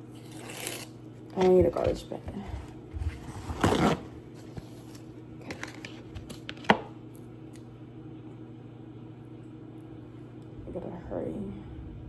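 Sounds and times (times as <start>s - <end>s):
microwave humming: 0.0s - 12.0s.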